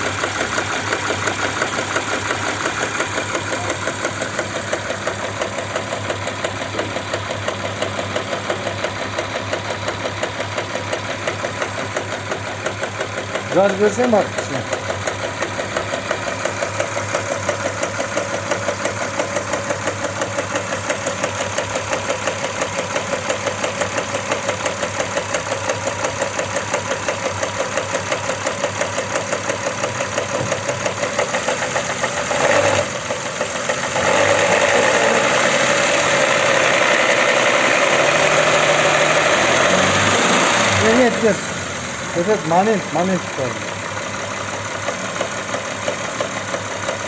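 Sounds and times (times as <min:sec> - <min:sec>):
engine running with regular knock: 0:00.0 - 0:47.0.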